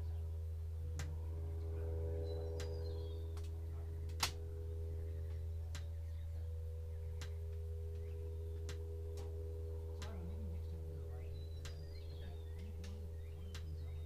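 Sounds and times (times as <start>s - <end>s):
aircraft cockpit drone: 0.0s - 14.0s
faint wavering tone: 0.0s - 14.0s.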